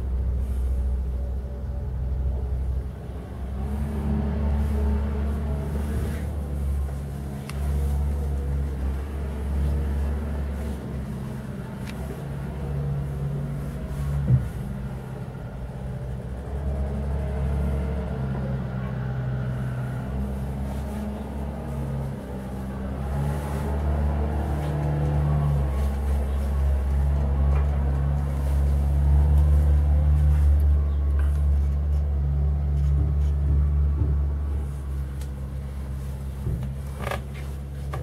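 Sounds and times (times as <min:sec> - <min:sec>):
low motor rumble: 0:00.0 - 0:38.0.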